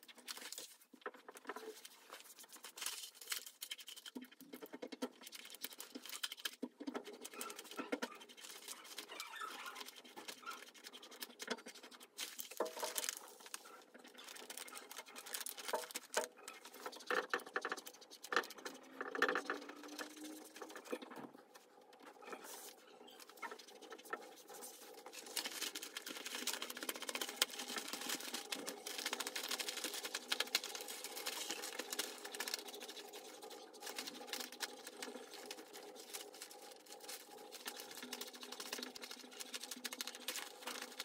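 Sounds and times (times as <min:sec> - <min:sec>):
plastic sheet crackling and rustling: 0:00.0 - 0:41.0.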